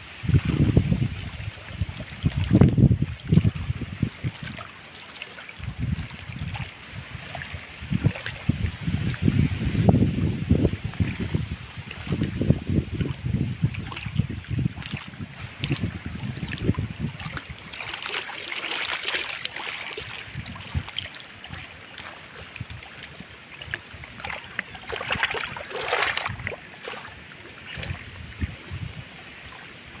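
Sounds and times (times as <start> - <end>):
wind buffeting microphone: 0.0 - 4.6, 5.6 - 18.3, 18.9 - 30.0
water splashing against boat hull: 0.3 - 30.0.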